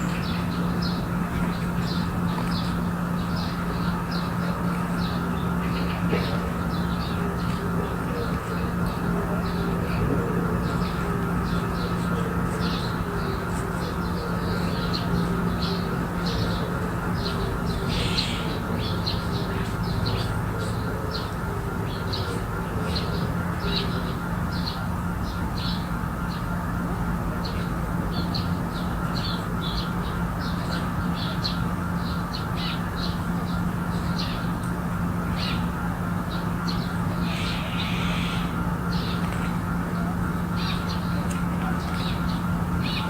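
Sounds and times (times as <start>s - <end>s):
harsh bird calls: 0.0s - 26.6s, 27.3s - 43.0s
birds chirping: 0.0s - 43.0s.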